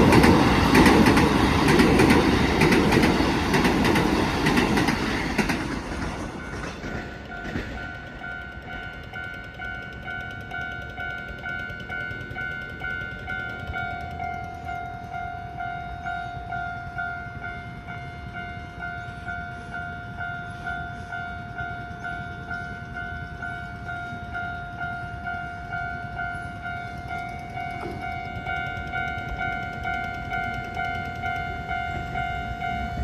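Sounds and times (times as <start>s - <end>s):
passing train rumble: 0.0s - 33.0s.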